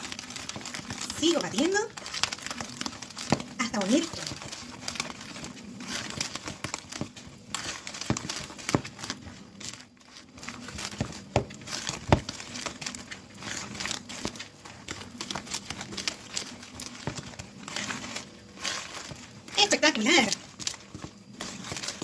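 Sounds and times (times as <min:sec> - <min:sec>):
whisk clicking and scraping bowl: 0:00.0 - 0:22.0.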